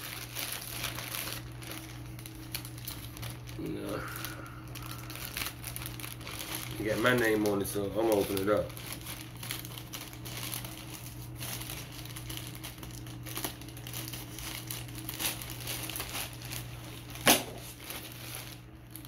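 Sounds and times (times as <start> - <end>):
plastic mailer crinkling: 0.0 - 19.0.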